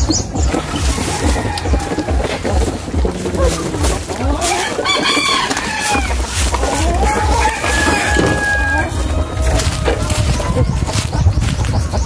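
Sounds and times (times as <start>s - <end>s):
roosters crowing: 0.0s - 12.0s.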